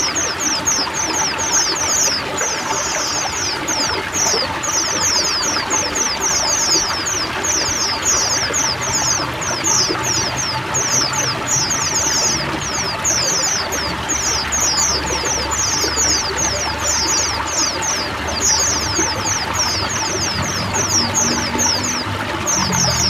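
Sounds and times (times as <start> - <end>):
birds chirping in chorus: 0.0 - 23.0
running water: 0.0 - 23.0.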